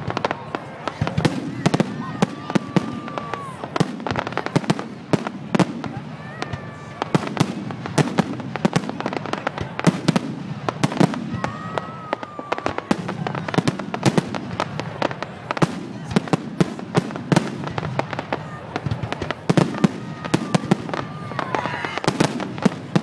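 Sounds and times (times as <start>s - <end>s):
fireworks bangs and crackles: 0.0s - 23.0s
whistling fireworks: 0.0s - 23.0s.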